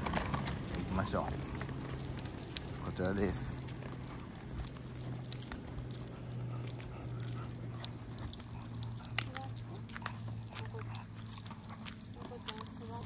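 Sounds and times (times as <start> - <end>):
light clicks and rattles: 0.0 - 13.0
stroller wheels rumbling on pavement: 0.0 - 13.0.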